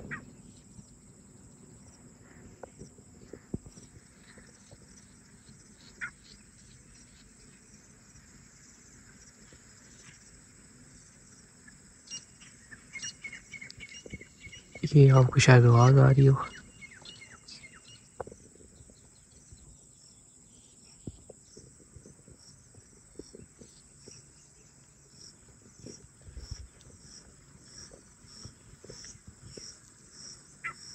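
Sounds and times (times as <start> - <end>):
distant bird calls: 0.0 - 30.9
insects chirring: 0.0 - 30.9.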